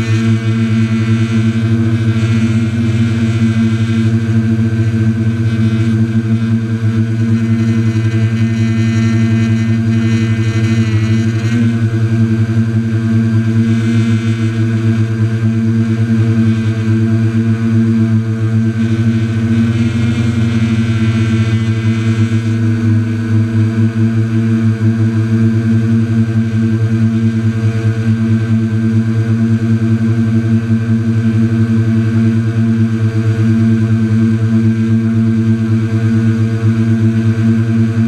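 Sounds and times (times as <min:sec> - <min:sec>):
drone propellers humming: 0:00.0 - 0:38.0.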